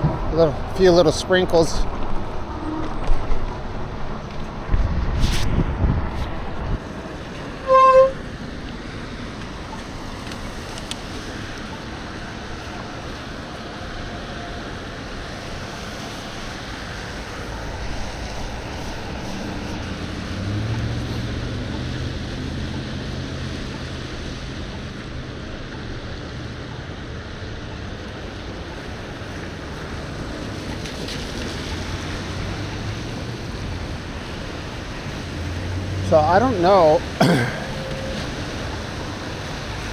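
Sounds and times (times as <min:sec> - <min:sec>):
passing vehicle engine hum: 0:00.0 - 0:27.4, 0:28.4 - 0:39.9
wind and road rush from bicycle: 0:00.0 - 0:39.9.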